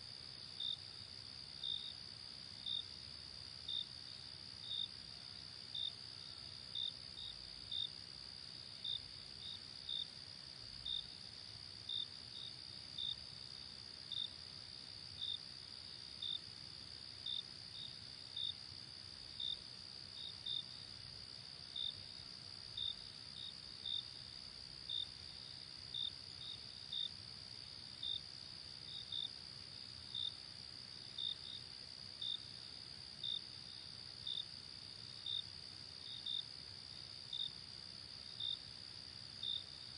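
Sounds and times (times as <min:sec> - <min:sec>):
cricket chirping: 0:00.0 - 0:39.9
soft background hiss: 0:00.0 - 0:39.9.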